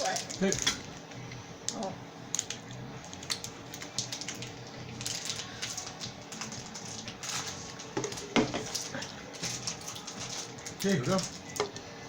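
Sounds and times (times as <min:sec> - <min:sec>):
snack wrapper crinkling: 0:01.7 - 0:11.6.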